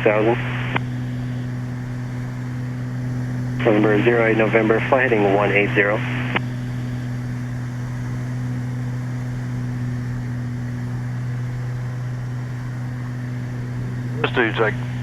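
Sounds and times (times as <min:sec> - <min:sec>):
piston aircraft engines droning: 0:00.0 - 0:15.0.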